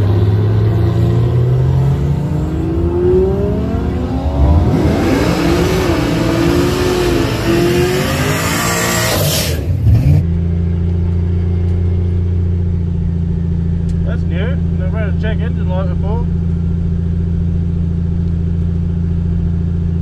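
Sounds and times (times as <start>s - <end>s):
car engine accelerating hard: 0.0s - 20.0s
engine hum inside car cabin: 0.0s - 20.0s.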